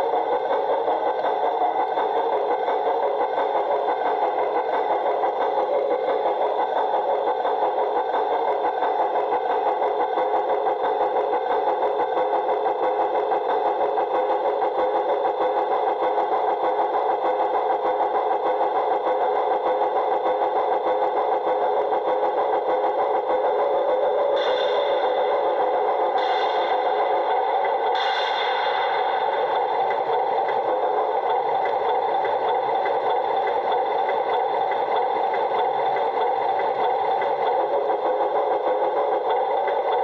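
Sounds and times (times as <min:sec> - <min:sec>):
model locomotive motor whirring: 0:00.0 - 0:28.0, 0:28.6 - 0:40.0.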